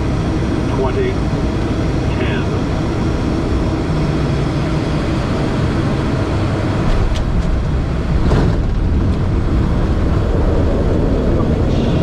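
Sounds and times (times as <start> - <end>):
aircraft engines and airflow rumble: 0.0 - 12.0.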